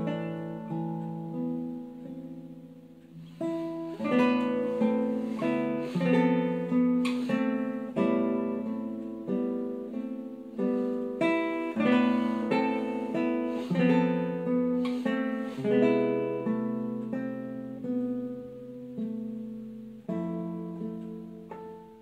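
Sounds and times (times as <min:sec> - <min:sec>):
classical guitar fingerstyle: 0:00.0 - 0:22.0.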